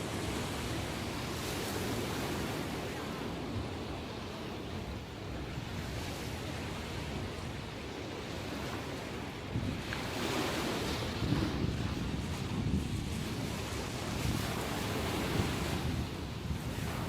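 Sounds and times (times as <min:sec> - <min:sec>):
sea waves breaking on shore: 0:00.0 - 0:17.0
wind buffeting microphone: 0:00.0 - 0:17.0.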